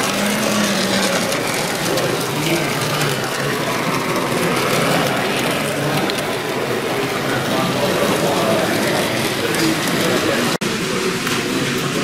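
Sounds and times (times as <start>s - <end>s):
distant voices din: 0.0s - 12.0s.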